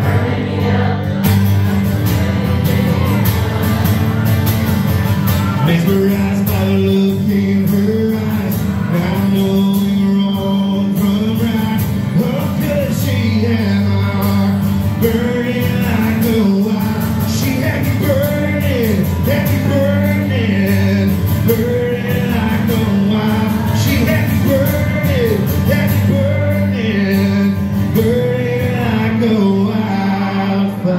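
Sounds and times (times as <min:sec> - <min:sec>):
acoustic guitar strumming: 0:00.0 - 0:30.9
man singing: 0:00.0 - 0:30.9.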